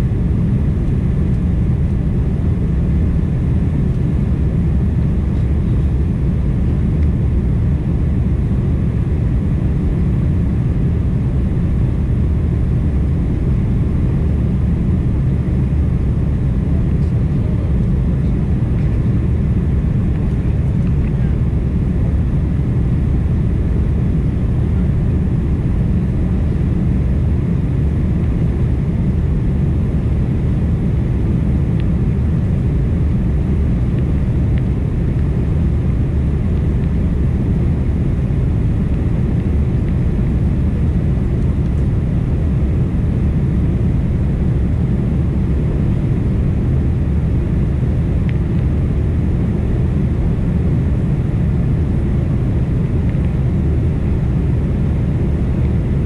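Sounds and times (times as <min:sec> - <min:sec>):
jet engines roaring in cabin: 0:00.0 - 0:56.0.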